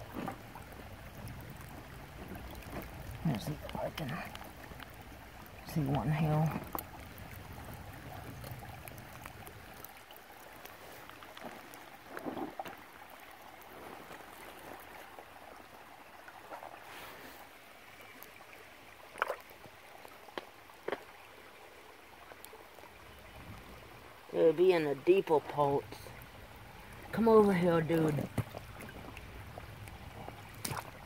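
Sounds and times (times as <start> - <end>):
creek water trickling: 0.0 - 31.0.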